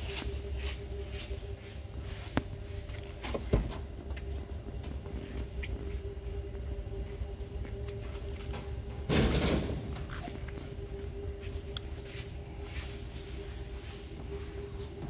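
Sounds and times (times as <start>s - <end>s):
low room hum with thin tone: 0.0s - 15.0s.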